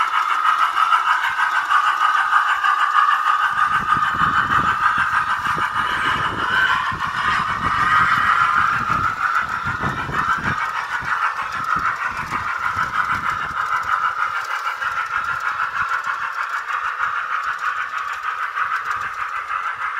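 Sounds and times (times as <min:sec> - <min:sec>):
tinny model locomotive engine sound: 0:00.0 - 0:19.9.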